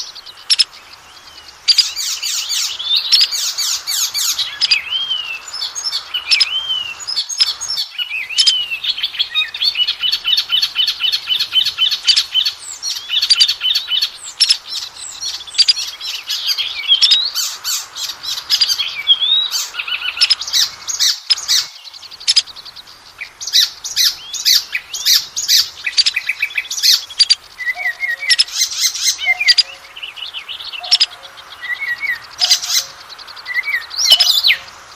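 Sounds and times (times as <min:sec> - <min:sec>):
songbird singing whistles and trills: 0:00.0 - 0:34.9.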